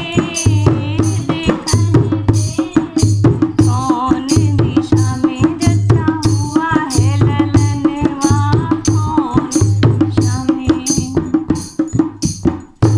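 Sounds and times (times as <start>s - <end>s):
woman singing folk melody: 0.0s - 11.5s
hand drum folk rhythm: 0.0s - 12.9s.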